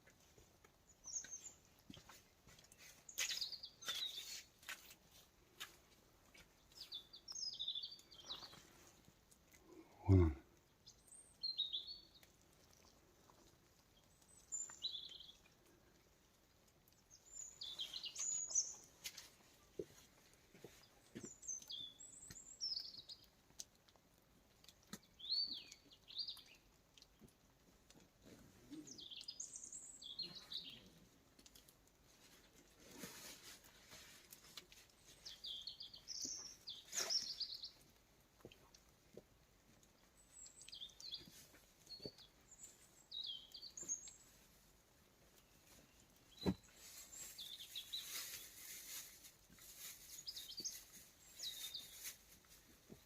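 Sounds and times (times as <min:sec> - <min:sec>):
rustle: 0:00.0 - 0:53.0
songbirds chirping: 0:00.0 - 0:53.0.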